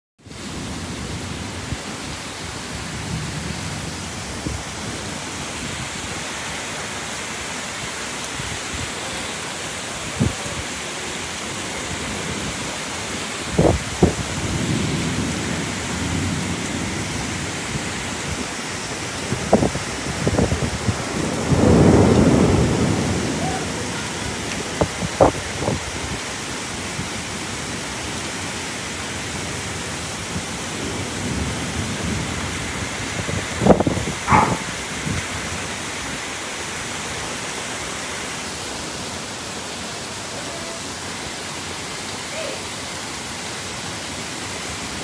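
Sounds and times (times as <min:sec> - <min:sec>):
heavy rain pouring: 0:00.2 - 0:45.0.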